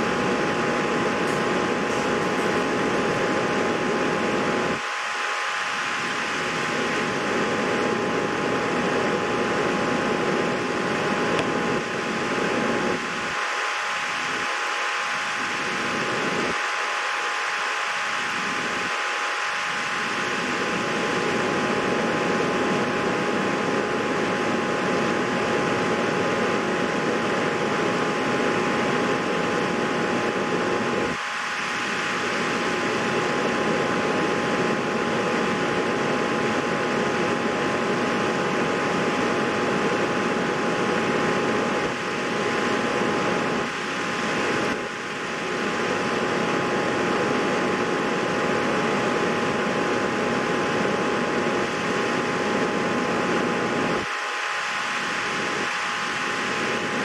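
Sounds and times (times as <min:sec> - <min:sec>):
electric fan whirring with high whine: 0:00.0 - 0:57.0.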